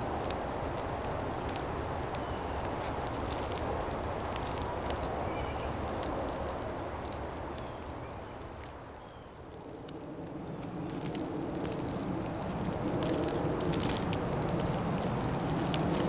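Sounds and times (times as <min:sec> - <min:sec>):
light scattered ticks: 0:00.0 - 0:16.0.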